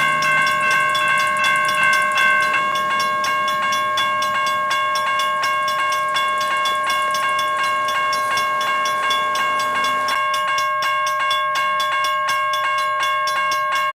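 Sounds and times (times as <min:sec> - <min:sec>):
low train rumble: 0:00.0 - 0:11.3
high-pitched ringing squeal: 0:00.0 - 0:11.6
train wheels clicking: 0:00.0 - 0:13.9.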